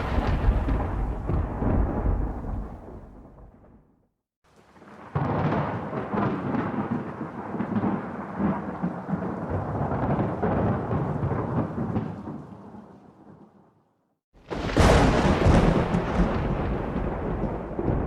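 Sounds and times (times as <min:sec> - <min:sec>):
thunder crack and rolling rumble: 0:00.0 - 0:03.9, 0:04.8 - 0:12.7, 0:14.4 - 0:18.0.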